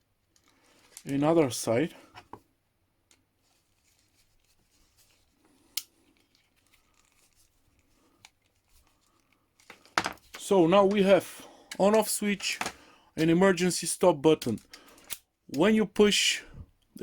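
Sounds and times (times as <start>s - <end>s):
handling wires and small tools: 0.0s - 15.8s.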